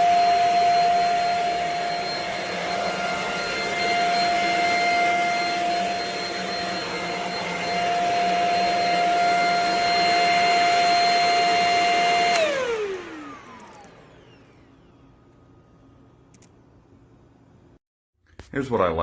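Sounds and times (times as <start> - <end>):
stick vacuum whining: 0.0 - 15.4.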